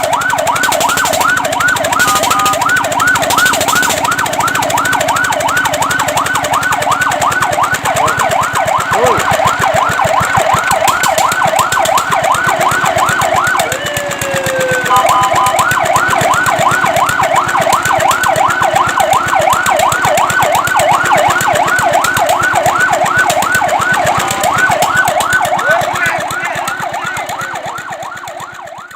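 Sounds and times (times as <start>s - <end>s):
fire truck siren yelping: 0.0s - 28.9s.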